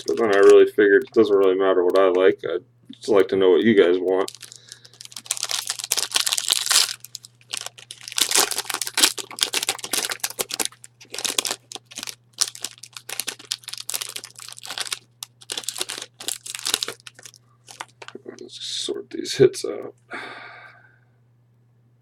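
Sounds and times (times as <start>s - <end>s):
plastic wrapping crinkling and tearing: 0.0s - 2.2s, 3.0s - 18.4s
faint low hum: 0.0s - 22.0s.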